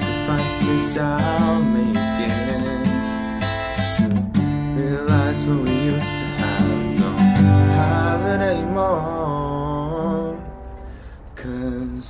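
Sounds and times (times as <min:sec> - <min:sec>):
man singing: 0:00.0 - 0:03.8, 0:04.4 - 0:12.0
acoustic guitar: 0:00.0 - 0:12.0.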